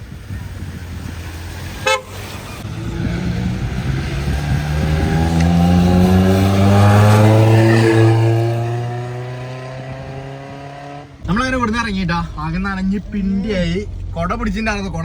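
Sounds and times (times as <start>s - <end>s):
car engine revving up: 0.0s - 15.0s.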